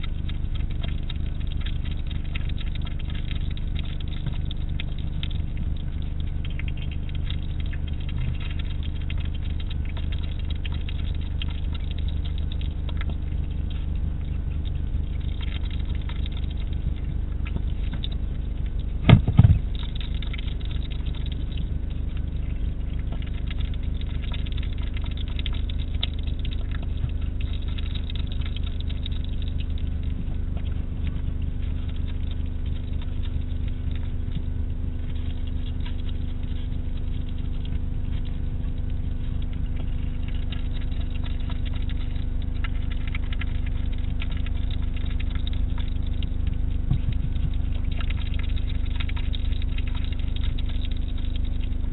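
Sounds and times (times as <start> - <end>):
hedgehog chewing and crunching: 0.0 - 51.9
low electrical hum: 0.0 - 51.9.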